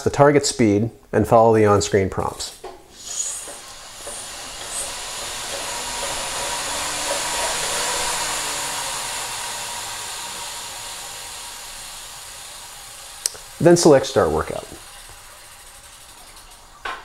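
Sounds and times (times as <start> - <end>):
bike trainer whirring: 2.6 - 17.0.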